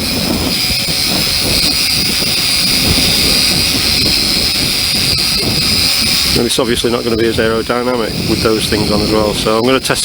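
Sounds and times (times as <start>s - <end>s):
quadcopter propellers whining: 0.0s - 10.0s
wind buffeting microphone: 0.0s - 10.0s.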